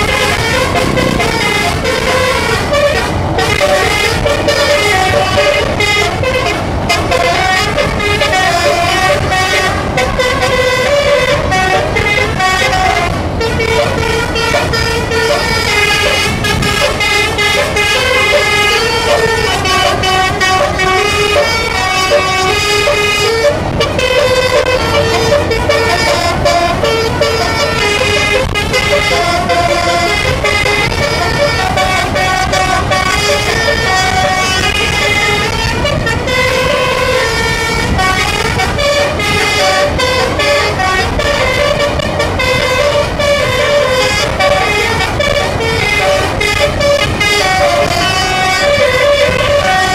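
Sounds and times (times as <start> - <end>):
multi-tone musical air horn: 0.0 - 49.9.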